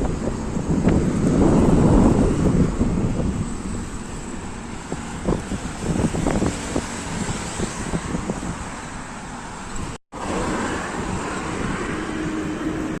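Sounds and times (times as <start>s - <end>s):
vehicles passing at speed: 0.0s - 13.0s
wind buffeting microphone: 0.0s - 13.0s.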